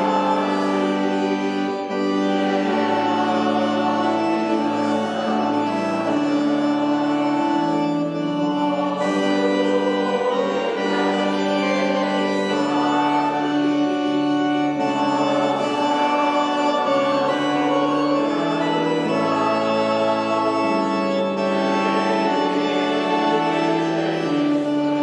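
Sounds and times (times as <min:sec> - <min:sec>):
organ playing hymn chords: 0:00.0 - 0:25.0.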